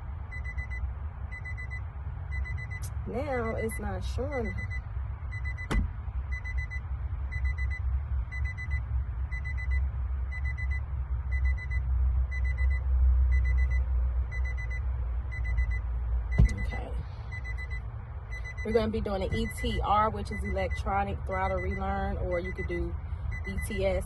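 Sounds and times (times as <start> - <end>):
car warning chime beeping: 0.2 - 24.0.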